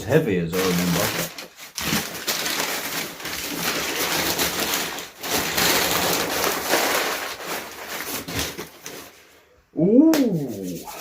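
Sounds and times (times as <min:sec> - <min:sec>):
paper and cardboard rustling: 0:00.5 - 0:09.4.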